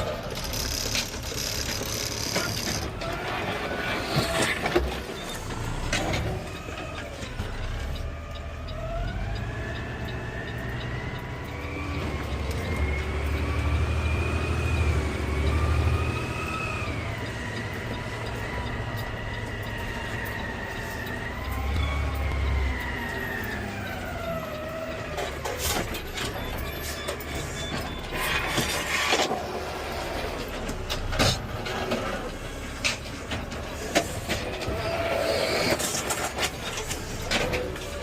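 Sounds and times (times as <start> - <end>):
garbage truck running: 0.0 - 38.0.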